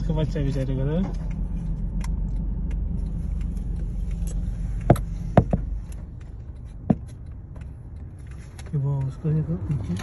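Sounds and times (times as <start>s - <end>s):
car engine and road hum: 0.0s - 10.0s.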